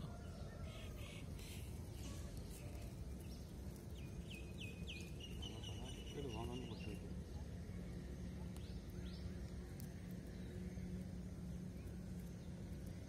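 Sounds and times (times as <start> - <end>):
bird chirping: 0.0 - 13.0
outdoor background noise: 0.0 - 13.0.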